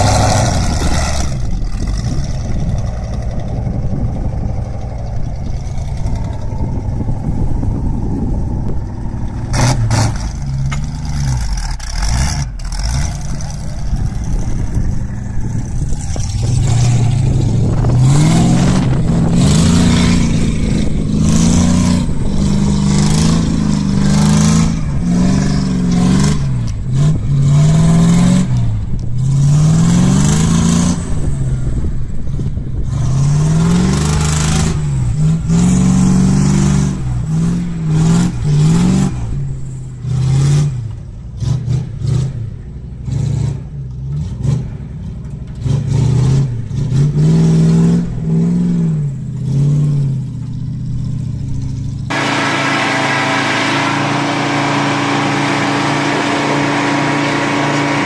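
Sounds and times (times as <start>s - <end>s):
engine running and revving: 0.0s - 58.0s.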